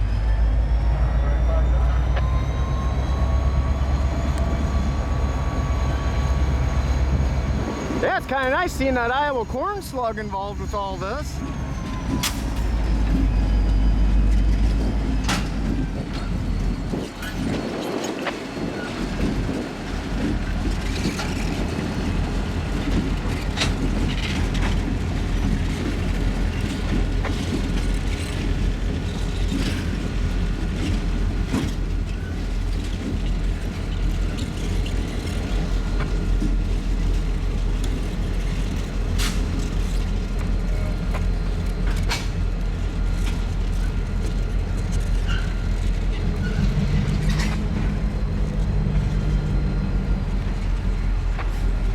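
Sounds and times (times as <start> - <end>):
diesel locomotive rumble: 0.0 - 51.9
train clanks and knocks: 0.0 - 51.9.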